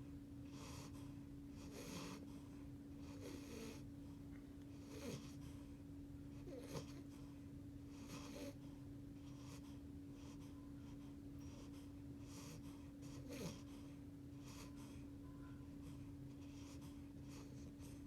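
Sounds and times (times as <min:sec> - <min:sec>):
puppy snoring softly: 0:00.0 - 0:18.0.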